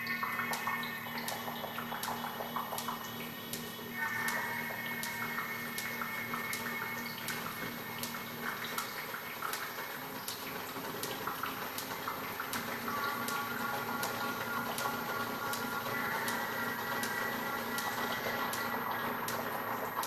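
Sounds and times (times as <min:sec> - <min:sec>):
water-like noise texture: 0:00.0 - 0:20.0.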